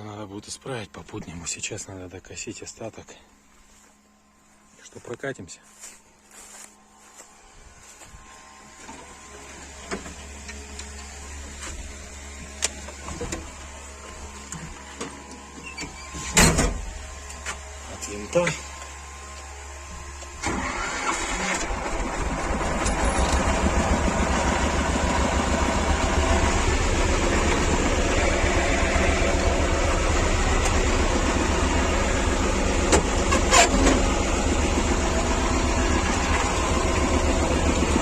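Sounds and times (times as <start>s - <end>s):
diesel tractor engine chugging: 5.7s - 38.0s.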